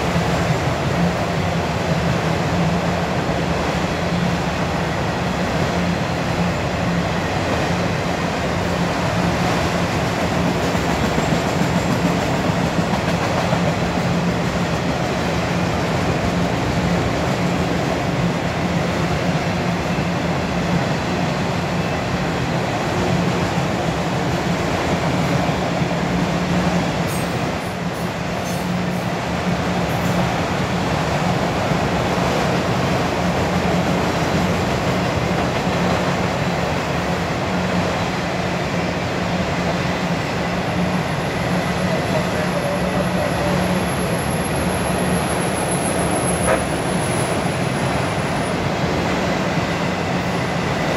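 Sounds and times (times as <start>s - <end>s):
steel wheels running on rail: 0.0s - 50.9s.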